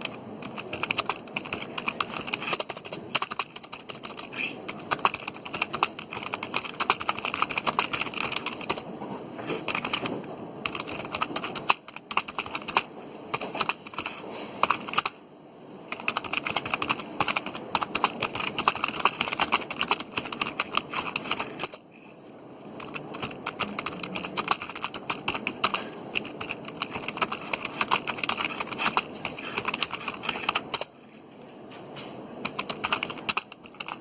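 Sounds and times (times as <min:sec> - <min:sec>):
rapid typing on computer keyboard: 0:00.0 - 0:15.2, 0:15.9 - 0:21.9, 0:22.7 - 0:30.9, 0:32.4 - 0:34.0.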